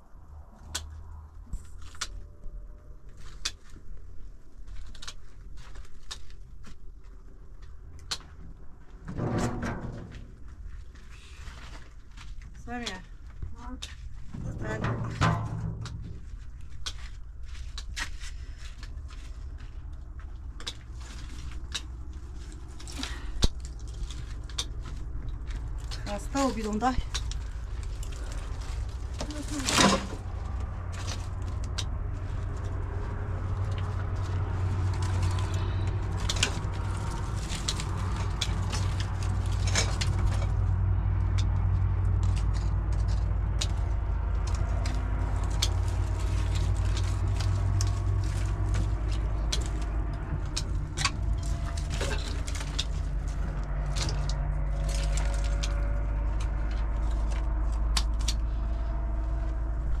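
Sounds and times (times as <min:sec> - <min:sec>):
low rumble of fire: 0:00.0 - 1:00.0
dry twigs snapping and crackling: 0:00.3 - 0:09.0, 0:15.7 - 1:00.0.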